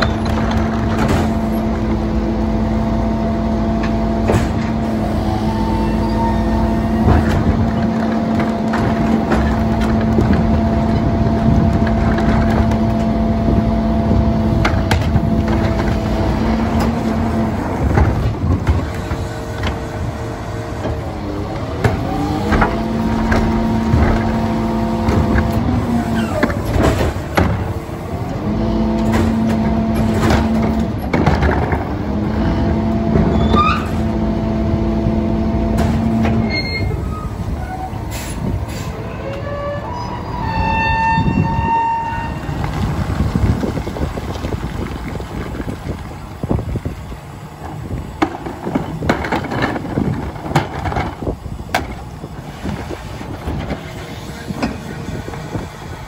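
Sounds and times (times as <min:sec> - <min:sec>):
carts and trash banging: 0:00.0 - 0:02.6, 0:03.7 - 0:05.3, 0:05.9 - 0:56.0
garbage truck hydraulics humming: 0:00.0 - 0:56.0.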